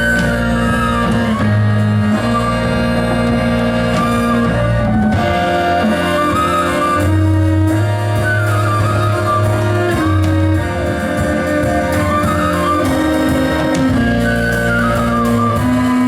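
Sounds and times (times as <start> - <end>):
accordion notes: 0.0 - 16.0
double bass line: 0.0 - 16.0
kaval flute melody: 0.0 - 16.0.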